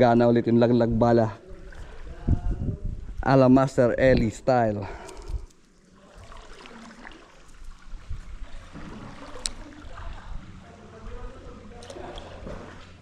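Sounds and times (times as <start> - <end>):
water lapping and trickling: 1.2 - 3.3, 4.2 - 13.0.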